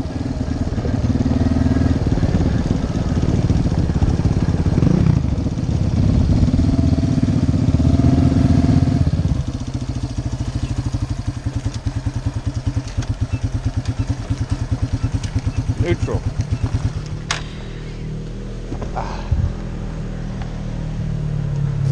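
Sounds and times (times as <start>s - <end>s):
vehicle engine revving and idling: 0.0s - 21.9s.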